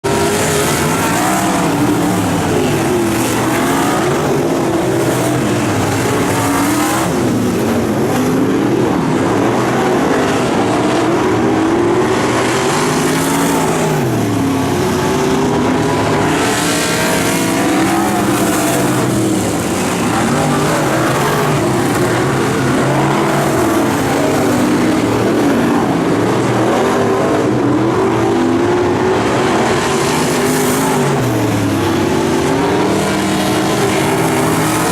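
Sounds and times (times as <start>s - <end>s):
race car engines running hard: 0.0s - 34.9s.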